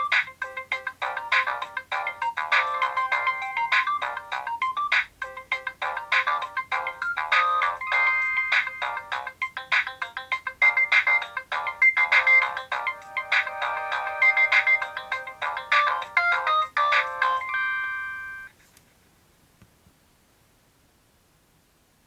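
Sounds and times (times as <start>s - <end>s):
polyphonic phone ringtone: 0.0s - 18.5s.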